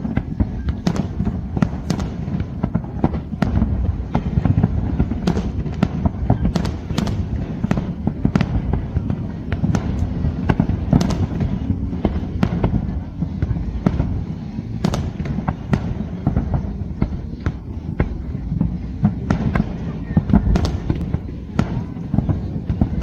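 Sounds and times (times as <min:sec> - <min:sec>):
fireworks bangs and crackles: 0:00.0 - 0:23.0
low rumble: 0:00.0 - 0:23.0.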